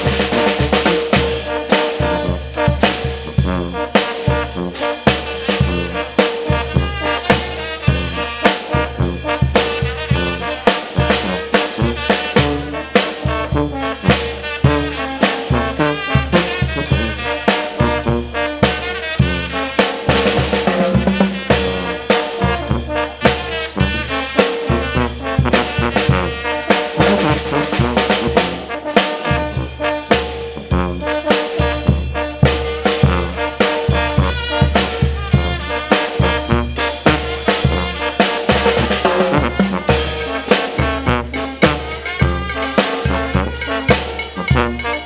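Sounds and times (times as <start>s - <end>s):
steady drum beat: 0.0s - 45.0s
trumpets and trombones: 0.0s - 45.0s.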